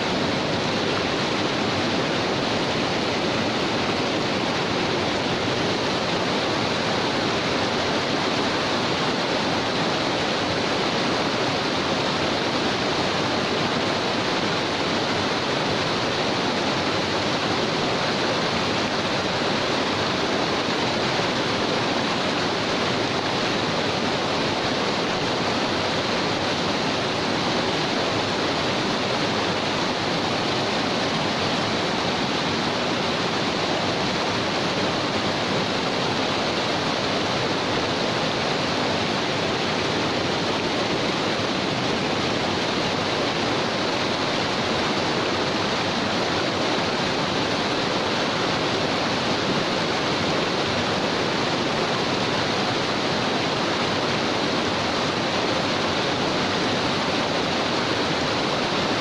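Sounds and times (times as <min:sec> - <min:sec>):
river flowing over stones: 0:00.0 - 0:59.0.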